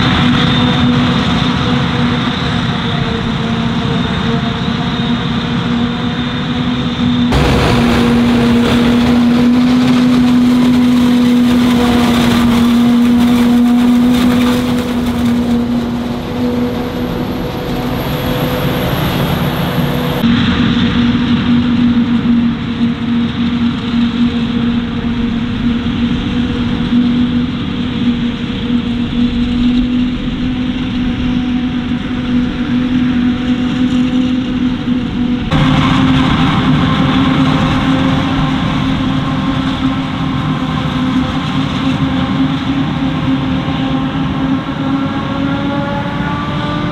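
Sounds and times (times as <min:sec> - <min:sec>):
harvest machinery droning: 0:04.2 - 0:46.9.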